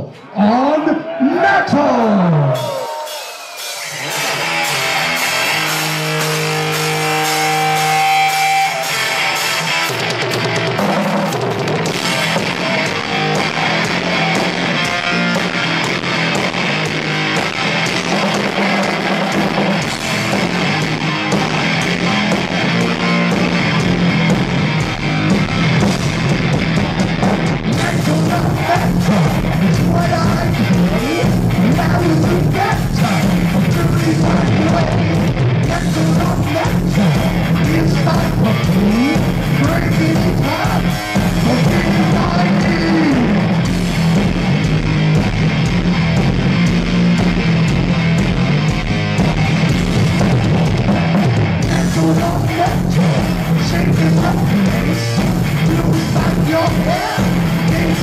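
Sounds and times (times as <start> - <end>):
distorted electric guitar: 0.0 - 58.0
heavy metal band playing live: 1.6 - 58.0.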